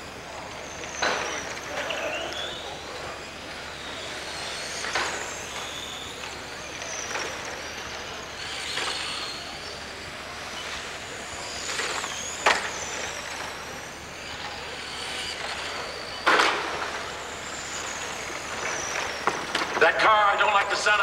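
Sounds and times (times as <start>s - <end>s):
rc car motors whining: 0.0s - 21.0s.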